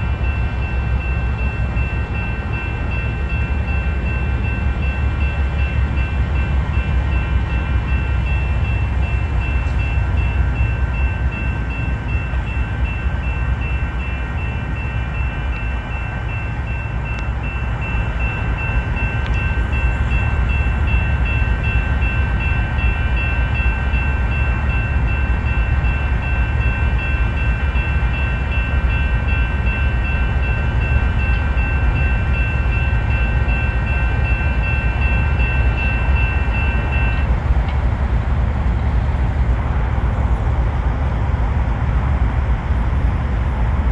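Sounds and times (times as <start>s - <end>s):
diesel locomotive engine rumble: 0.0s - 43.9s.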